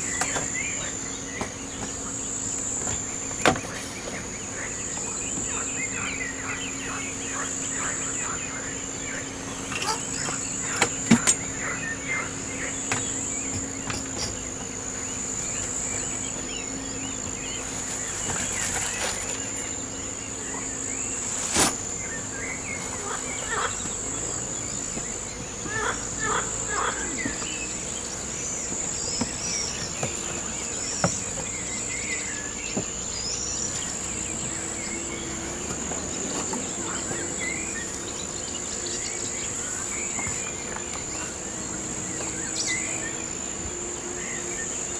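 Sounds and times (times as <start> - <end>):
bird chirps: 0.0 - 44.9
insects trilling: 0.0 - 44.9.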